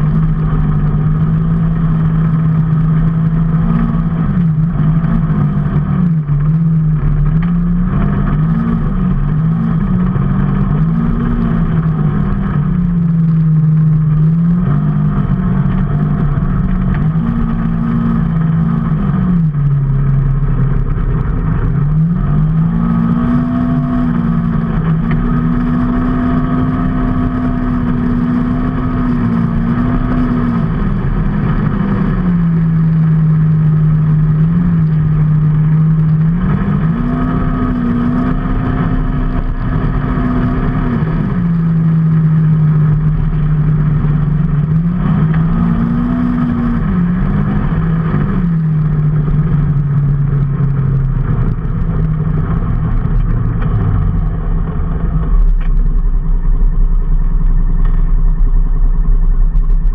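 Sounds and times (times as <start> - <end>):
low road rumble: 0.0 - 59.9
vehicle engine running: 0.0 - 59.9.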